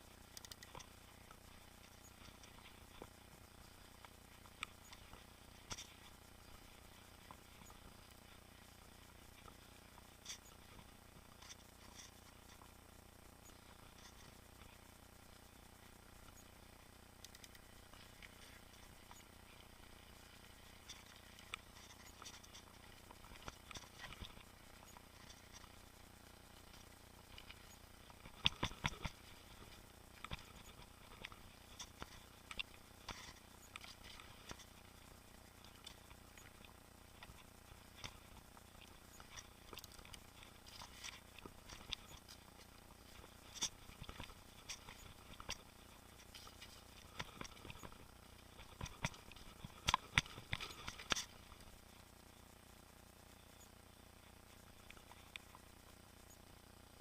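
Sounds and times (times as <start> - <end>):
mountain bike rattling and clicking: 0.0 - 52.2.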